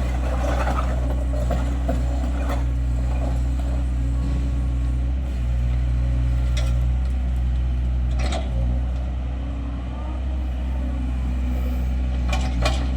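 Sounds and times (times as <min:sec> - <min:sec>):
excavator diesel engine: 0:00.0 - 0:12.9.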